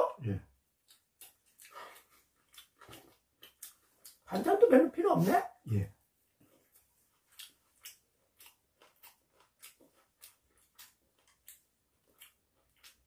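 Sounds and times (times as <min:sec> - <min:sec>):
faint crunchy chewing: 0:00.5 - 0:04.6, 0:06.2 - 0:13.0.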